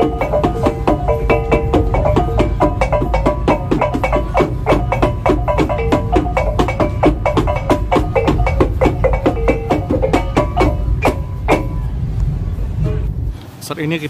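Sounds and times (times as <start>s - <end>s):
fast percussive tune: 0.0s - 12.0s
steady low bass: 0.0s - 13.4s.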